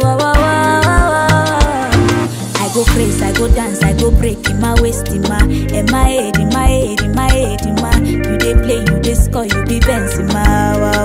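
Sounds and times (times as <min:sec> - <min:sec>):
afrobeats song: 0:00.0 - 0:11.0.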